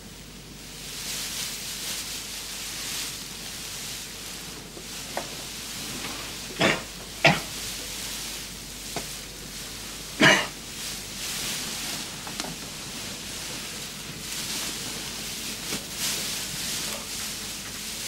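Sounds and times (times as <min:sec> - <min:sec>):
steady hiss: 0:00.0 - 0:18.0
straw mattresses rustling: 0:00.0 - 0:18.0.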